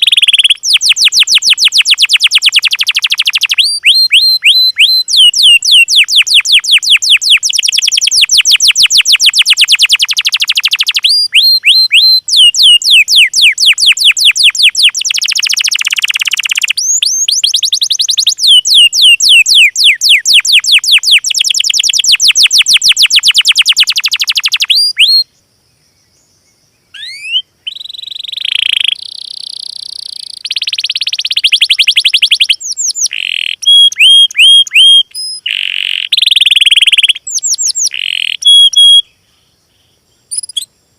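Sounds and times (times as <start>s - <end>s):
buzzy bird trills and chirps: 0.0s - 25.2s, 26.8s - 39.1s, 40.2s - 40.7s
bird trilling whistled notes: 0.0s - 25.3s, 26.9s - 39.1s, 40.3s - 40.7s.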